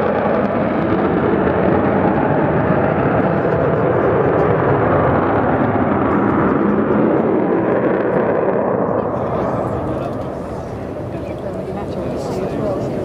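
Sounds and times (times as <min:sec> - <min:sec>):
aircraft engine rush overhead: 0:00.0 - 0:13.0.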